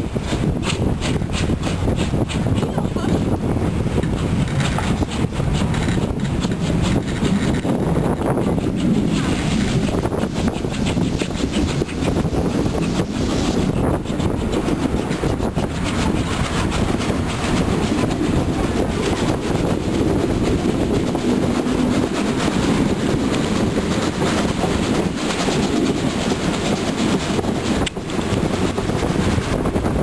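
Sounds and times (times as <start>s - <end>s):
train coaches rumbling on track: 0.0s - 30.0s
wheels clattering: 0.0s - 30.0s.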